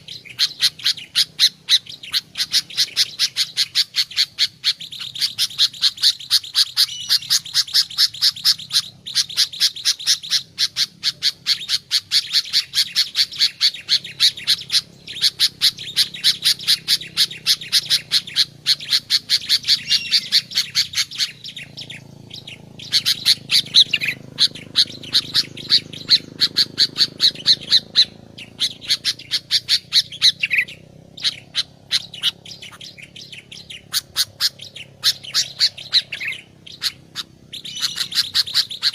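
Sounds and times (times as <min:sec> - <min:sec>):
bird harsh chattering calls: 0:00.0 - 0:38.9.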